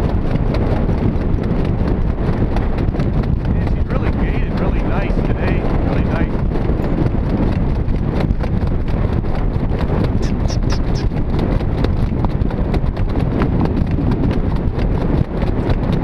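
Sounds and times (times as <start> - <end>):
hoofbeats clip-clop: 0.0 - 16.0
low rumble of jog cart: 0.0 - 16.0.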